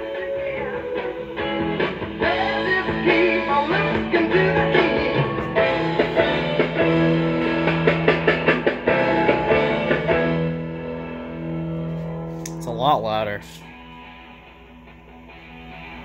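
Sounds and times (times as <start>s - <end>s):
rock music through radio loudspeaker: 0.0s - 16.0s.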